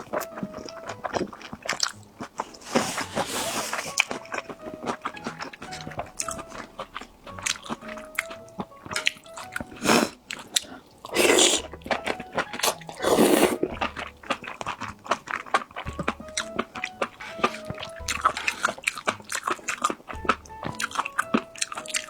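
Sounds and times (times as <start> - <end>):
light background music: 0.0 - 22.0
person chewing crunchy food: 0.0 - 22.0.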